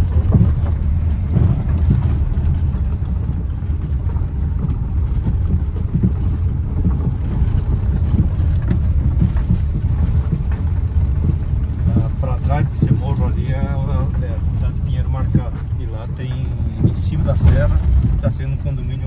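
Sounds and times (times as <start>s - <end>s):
faint road knocks: 0.0s - 18.8s
car engine and tyre rumble: 0.0s - 19.0s.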